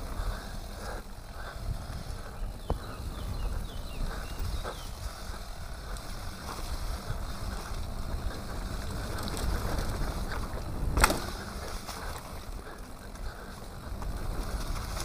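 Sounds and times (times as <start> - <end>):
bike tyres rumbling on dirt trail: 0.0 - 15.0
wind on microphone: 1.3 - 15.0.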